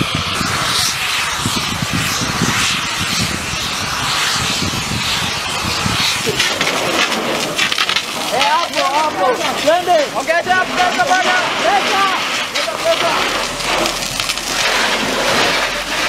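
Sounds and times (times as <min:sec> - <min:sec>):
gas fire rushing: 0:00.0 - 0:16.0
low fire crackles: 0:00.0 - 0:16.0.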